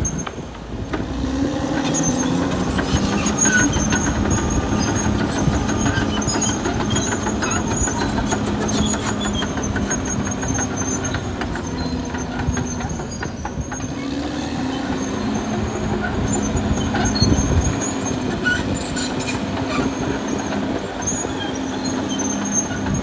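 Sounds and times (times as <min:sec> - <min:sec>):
bulldozer diesel engine: 0:00.0 - 0:23.0
steel tracks clattering: 0:00.0 - 0:23.0
track squeaks: 0:00.0 - 0:23.0.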